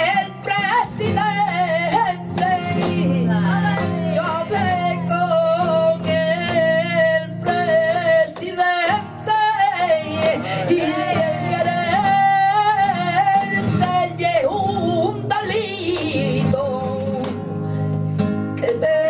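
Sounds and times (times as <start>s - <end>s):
flamenco guitar: 0.0s - 19.0s
person singing flamenco: 0.0s - 19.0s.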